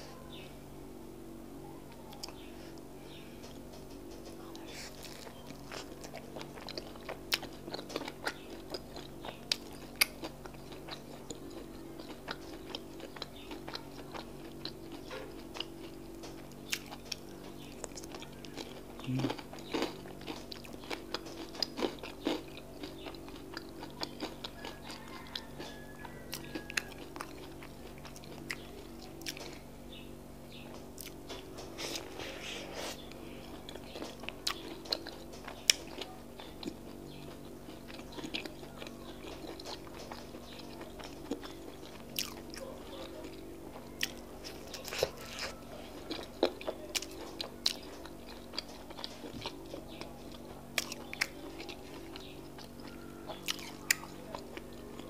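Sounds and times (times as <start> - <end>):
close-miked crunchy chewing: 1.8 - 55.0.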